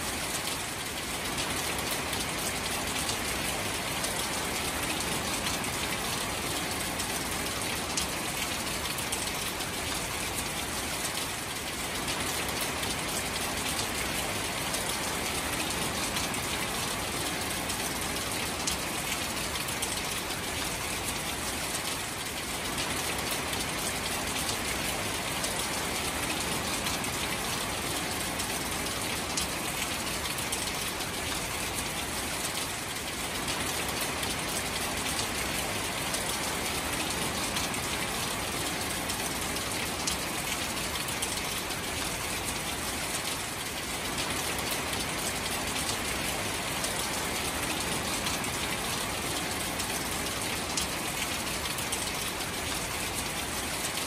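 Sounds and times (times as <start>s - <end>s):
rain falling on water: 0.0s - 54.0s.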